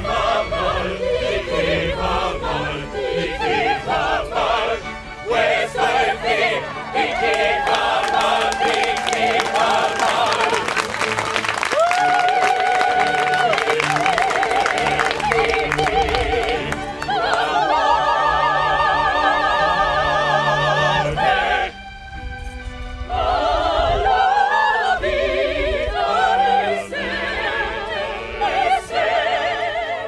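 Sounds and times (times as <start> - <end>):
operatic singing with vibrato: 0.0 - 21.9, 23.0 - 30.0.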